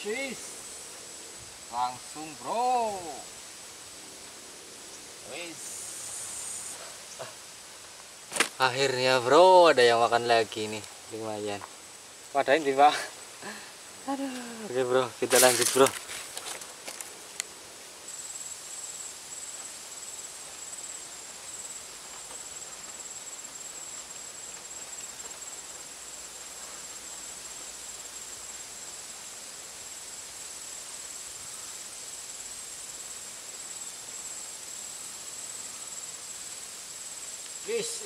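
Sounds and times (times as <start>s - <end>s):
insects trilling: 0.0s - 38.0s
outdoor background hiss: 0.0s - 38.0s.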